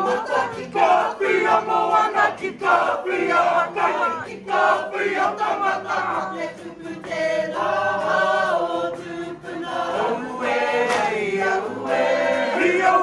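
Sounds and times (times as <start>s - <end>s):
women singing in unison: 0.0s - 13.0s.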